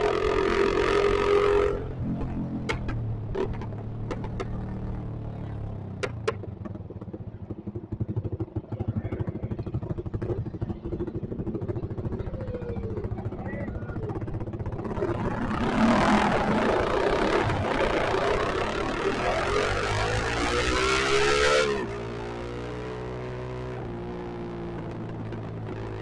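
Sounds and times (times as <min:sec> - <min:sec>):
motorcycle engine with loud exhaust: 0:00.0 - 0:26.0.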